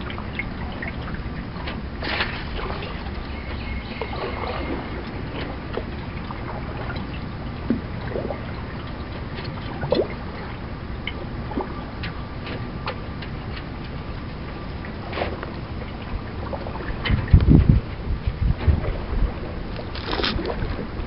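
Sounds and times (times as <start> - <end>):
paddle splashing in water: 0.0 - 17.7, 18.6 - 21.0
steady low rumble: 0.0 - 21.0.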